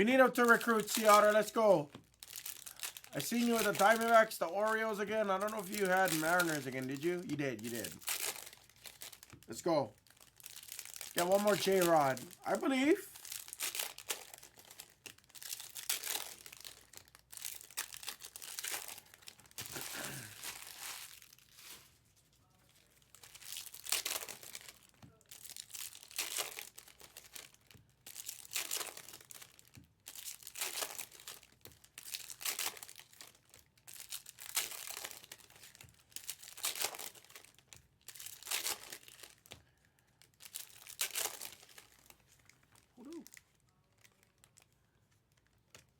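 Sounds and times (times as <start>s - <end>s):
card pack wrappers crinkling: 0.0s - 45.9s.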